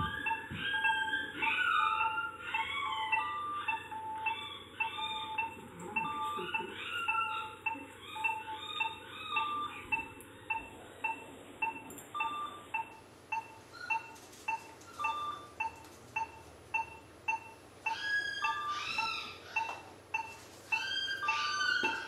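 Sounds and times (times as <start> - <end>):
higher-pitched beeps: 0.0 - 22.0
patient monitor beeping: 0.0 - 22.0.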